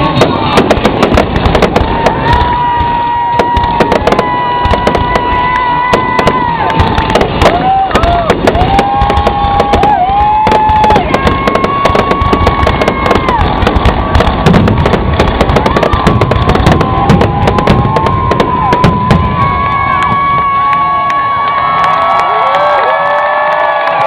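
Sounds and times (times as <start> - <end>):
firework whistles: 0.0 - 21.4
fireworks crackling and popping: 0.0 - 24.0.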